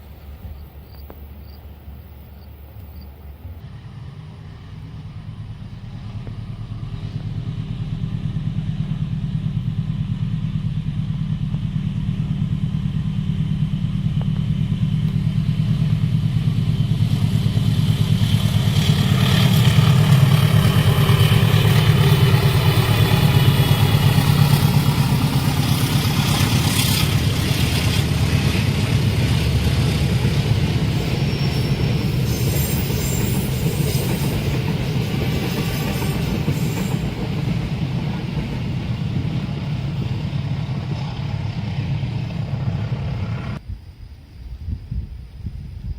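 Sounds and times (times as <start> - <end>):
diesel train engine rumble: 0.0 - 45.9.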